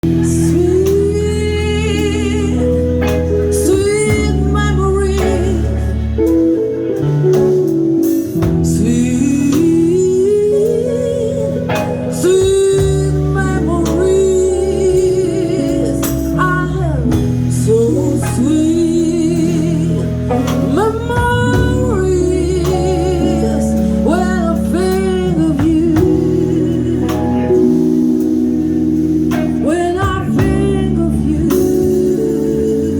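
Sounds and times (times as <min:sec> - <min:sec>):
live jazz band playing: 0:00.0 - 0:32.9.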